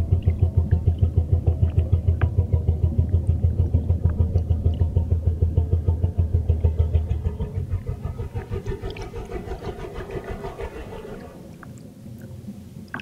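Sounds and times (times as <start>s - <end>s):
whale song low pulses: 0.0s - 12.7s.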